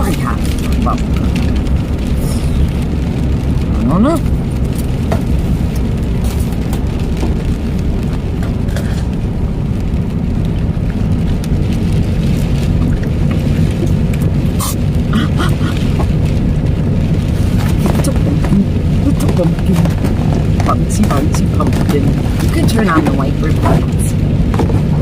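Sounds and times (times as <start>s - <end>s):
car engine rumble inside cabin: 0.0s - 25.0s.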